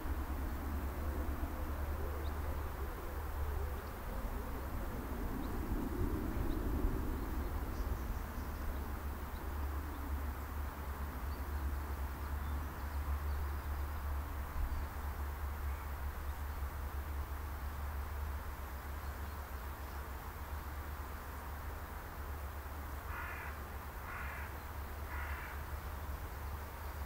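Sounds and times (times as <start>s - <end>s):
wind rumbling on microphone: 0.0s - 22.2s.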